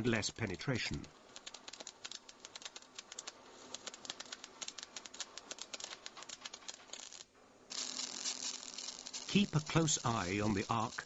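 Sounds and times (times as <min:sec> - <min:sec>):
welding arc crackling: 0:01.0 - 0:11.0.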